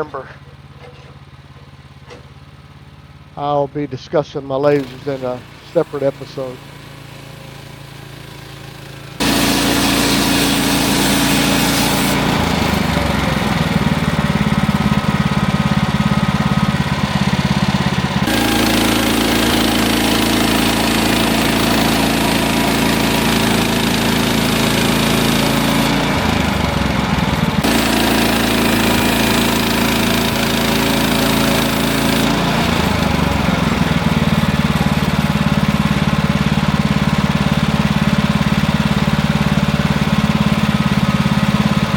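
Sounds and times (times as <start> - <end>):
sawmill engine sawing log: 0.0 - 41.9.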